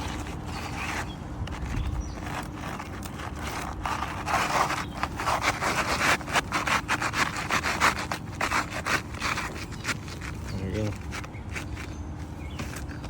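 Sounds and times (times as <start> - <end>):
shingles scraping against each other: 0.0 - 13.0.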